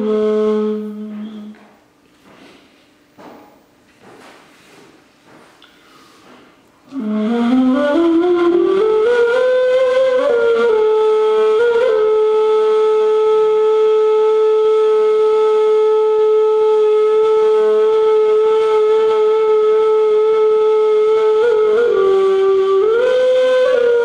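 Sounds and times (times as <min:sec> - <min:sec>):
end-blown cane flute playing: 0:00.0 - 0:01.7, 0:06.2 - 0:24.0.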